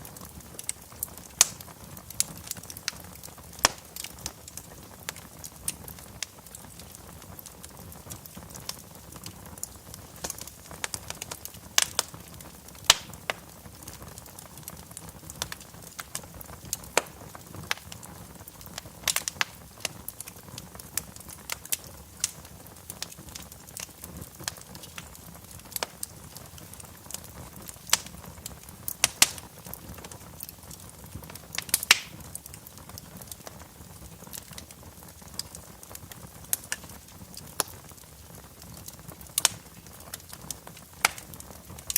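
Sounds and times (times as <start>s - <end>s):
low steady fire hiss: 0.0s - 41.9s
wood fire crackling and popping: 0.0s - 41.9s.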